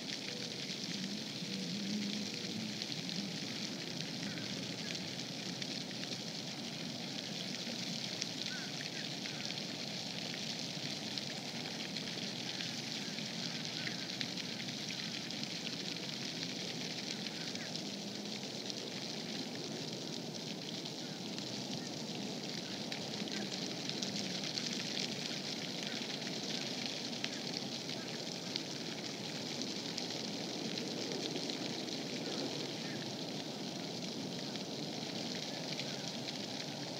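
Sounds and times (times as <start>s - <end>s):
outdoor background hiss: 0.0s - 36.9s.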